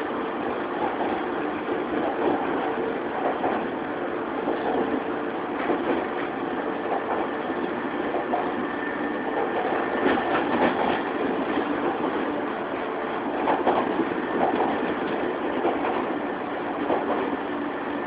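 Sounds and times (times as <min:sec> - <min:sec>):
train wheels and motors rumbling: 0:00.0 - 0:18.0.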